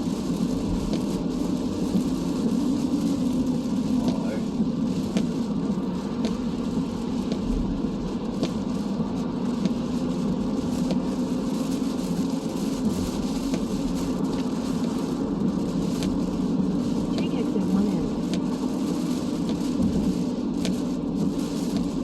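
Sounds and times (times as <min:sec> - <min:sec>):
car driving in rain: 0:00.0 - 0:22.0.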